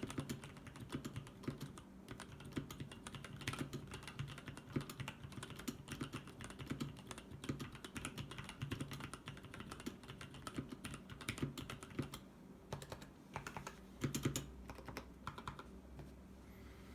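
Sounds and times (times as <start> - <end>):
typing on mechanical keyboard: 0.0 - 15.7.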